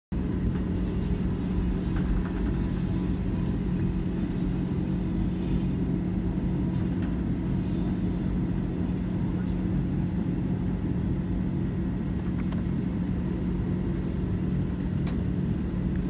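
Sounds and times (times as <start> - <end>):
jet engines humming: 0.1 - 16.0
rumble of rolling aircraft: 0.1 - 16.0.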